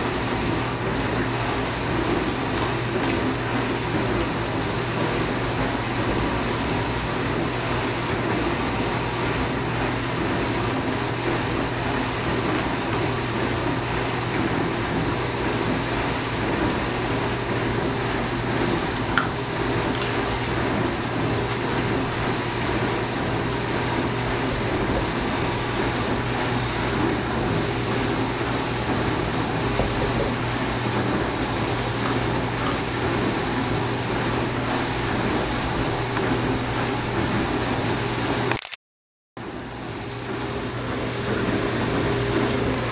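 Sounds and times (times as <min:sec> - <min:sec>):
dishwasher humming: 0:00.0 - 0:38.5, 0:39.4 - 0:42.9.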